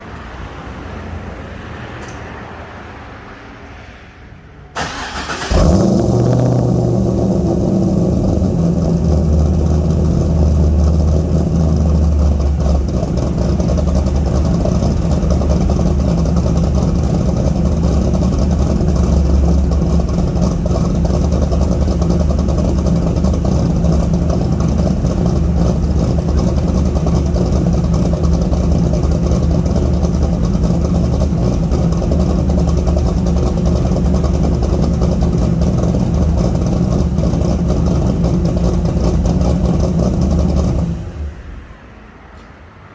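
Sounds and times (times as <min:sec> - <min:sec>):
car engine starting and idling: 0:04.7 - 0:42.6.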